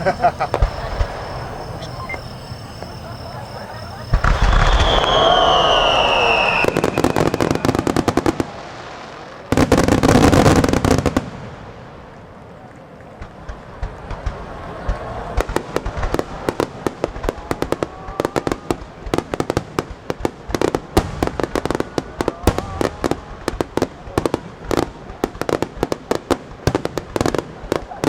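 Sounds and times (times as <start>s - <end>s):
whistling firework shells: 0.0s - 11.2s, 12.2s - 28.0s
fireworks bangs and crackling: 0.0s - 28.0s.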